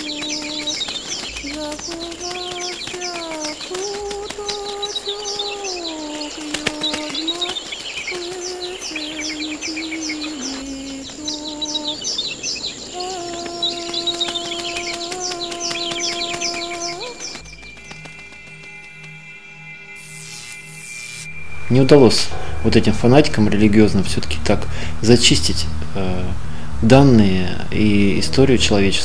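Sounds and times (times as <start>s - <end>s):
slow melody of held notes: 0.0s - 29.0s
small birds twittering: 0.0s - 29.0s.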